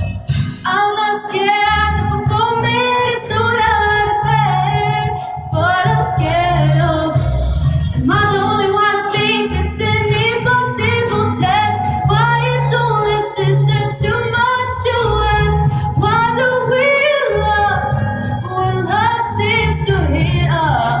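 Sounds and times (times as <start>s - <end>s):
low bass line: 0.0s - 0.6s, 1.7s - 21.0s
woman singing with vibrato: 0.0s - 21.0s.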